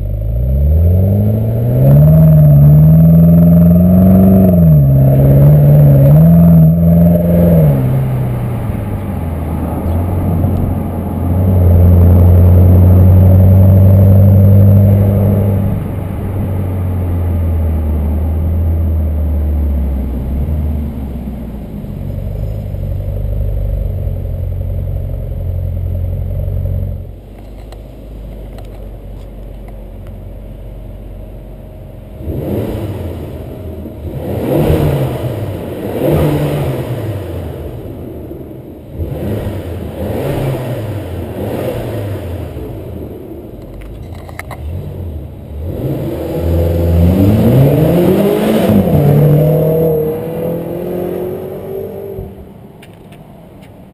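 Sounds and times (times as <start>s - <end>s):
car engine and exhaust: 0.0s - 53.9s.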